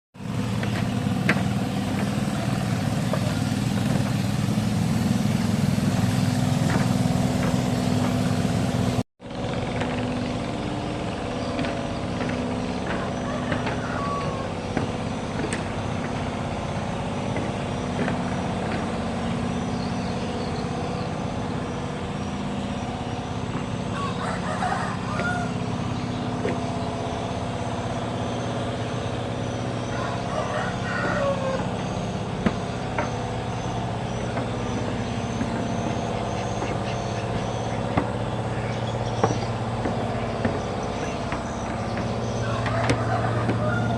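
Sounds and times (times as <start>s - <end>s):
motor engine running: 0.2s - 43.9s.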